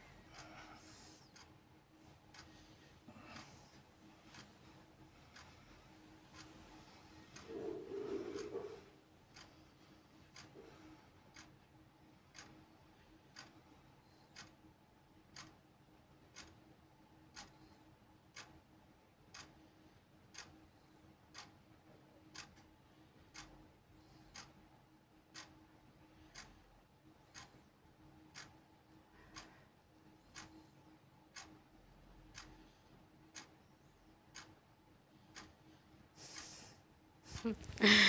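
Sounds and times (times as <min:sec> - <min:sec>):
faint clock ticking: 0:00.0 - 0:38.0
low steady hum: 0:00.0 - 0:38.0.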